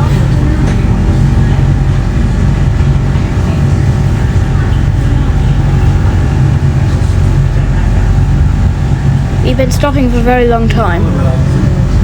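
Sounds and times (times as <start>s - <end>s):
tram cabin rumble and hum: 0.0s - 12.0s.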